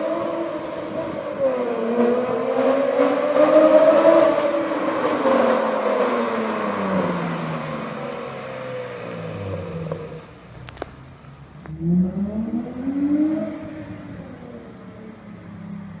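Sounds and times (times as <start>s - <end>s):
car engine passing by: 0.0s - 16.0s.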